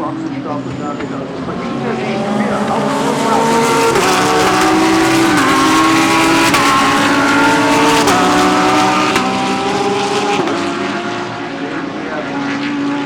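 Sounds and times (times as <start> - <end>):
race cars accelerating past: 0.0 - 13.0.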